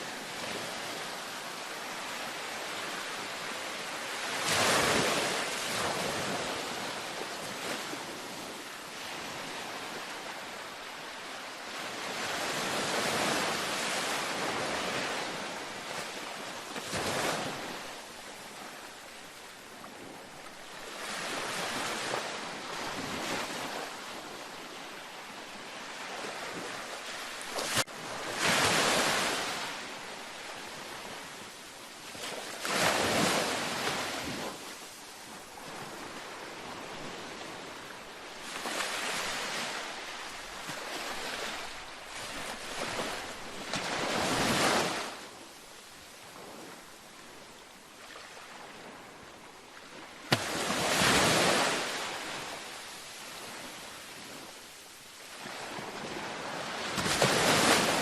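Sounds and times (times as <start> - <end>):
waves washing onto beach: 0.0 - 58.0.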